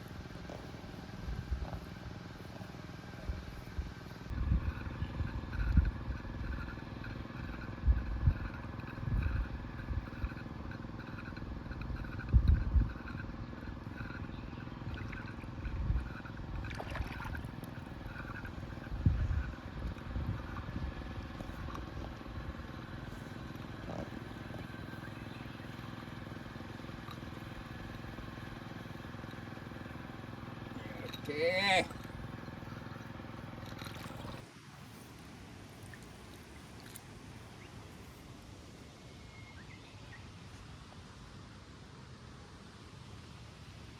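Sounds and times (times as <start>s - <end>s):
small engine running: 0.0s - 35.9s.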